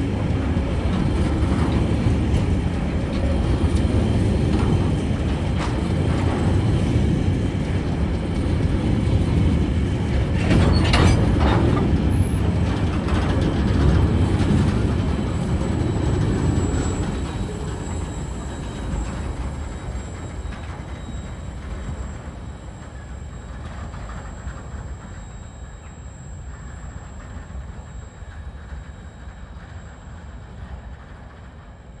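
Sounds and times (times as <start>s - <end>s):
train wheel clacks: 0.0s - 31.7s
freight train wagons rumbling: 0.0s - 32.0s.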